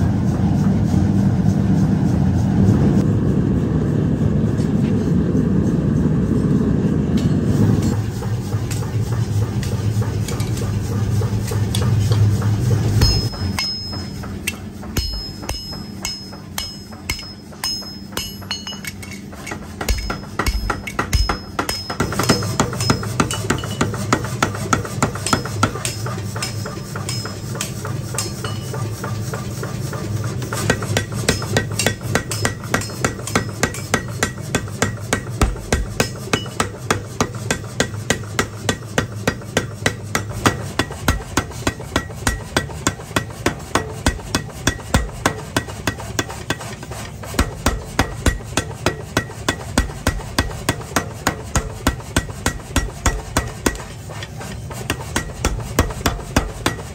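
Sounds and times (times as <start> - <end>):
low machine hum: 0.0 - 56.9
power hammer pounding metal: 7.8 - 56.9.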